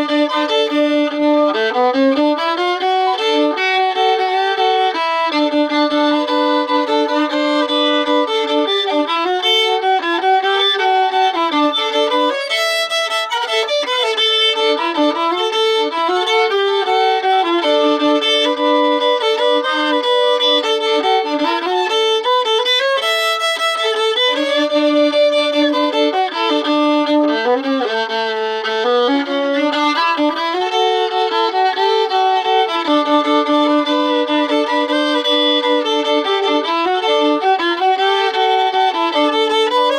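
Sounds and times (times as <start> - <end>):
solo fiddle tune: 0.0 - 39.9.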